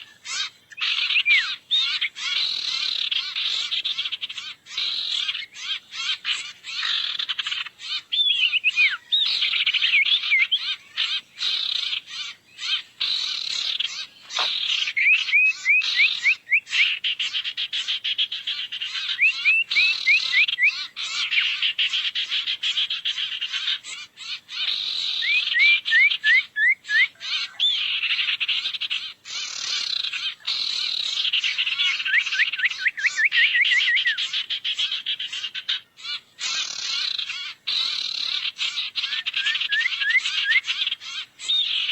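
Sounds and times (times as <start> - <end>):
small birds chattering: 0.0 - 41.9.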